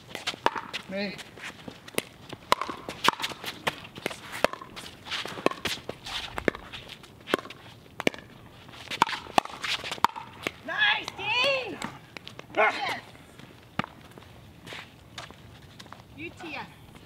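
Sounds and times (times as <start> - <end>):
footsteps and shoe scuffs on court: 0.0 - 10.6, 11.8 - 17.0.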